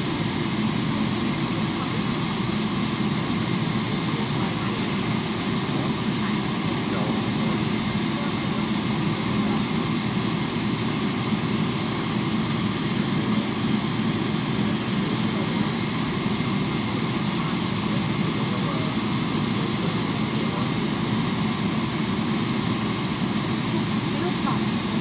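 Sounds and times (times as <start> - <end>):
aircraft cabin engine drone: 0.0 - 25.0.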